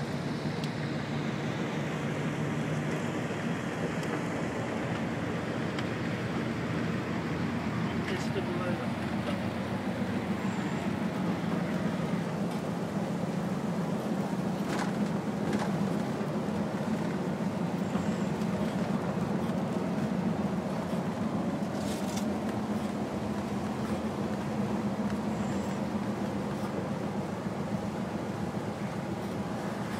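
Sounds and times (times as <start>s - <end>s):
large vehicle engine drone: 0.0s - 29.9s
tyres on wet road: 0.0s - 29.9s.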